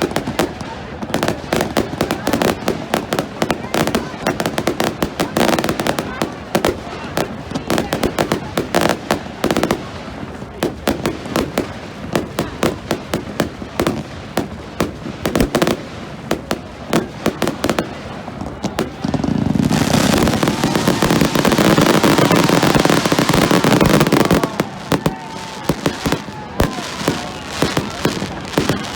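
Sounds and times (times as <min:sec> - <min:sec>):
fireworks bangs and crackles: 0:00.0 - 0:28.9
fireworks whistling: 0:00.0 - 0:28.9.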